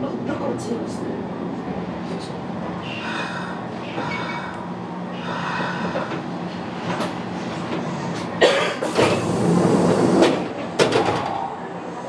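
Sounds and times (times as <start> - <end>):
train running noise with wheel clatter: 0.0 - 12.0.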